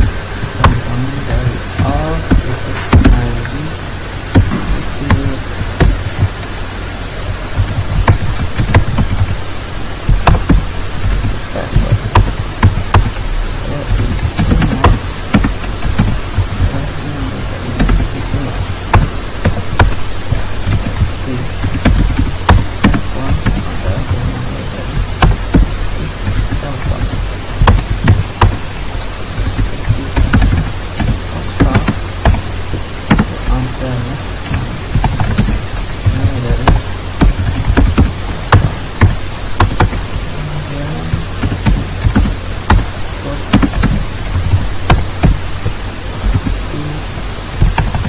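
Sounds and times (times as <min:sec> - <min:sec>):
low electrical hum and hiss: 0:00.0 - 0:48.0
keyboard typing: 0:04.3 - 0:06.6, 0:07.3 - 0:09.4, 0:10.0 - 0:48.0.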